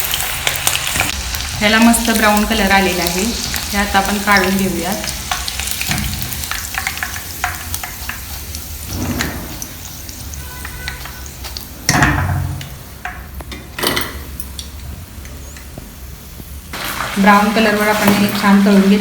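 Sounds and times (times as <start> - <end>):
chicken sizzling in hot oil: 0.0 - 13.4, 15.4 - 19.0.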